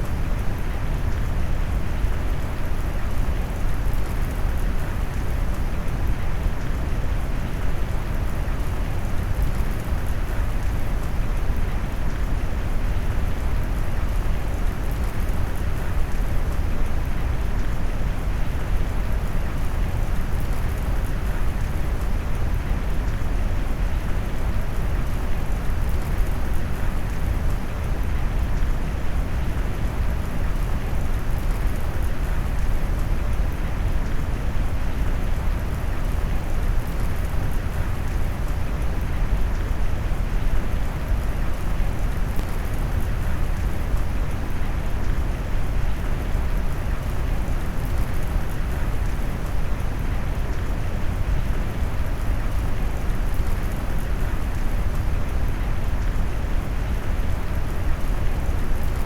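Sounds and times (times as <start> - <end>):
heavy rain: 0.1 - 59.0.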